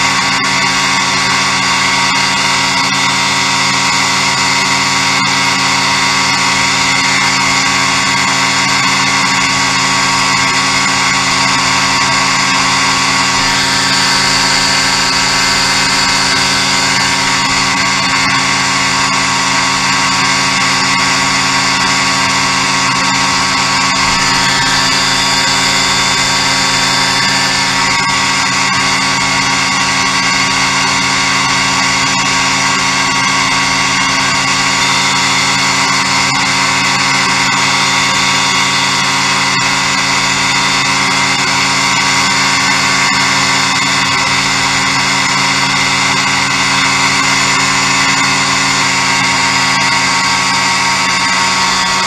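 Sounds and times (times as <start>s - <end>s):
light aircraft engine drone: 0.0s - 52.0s.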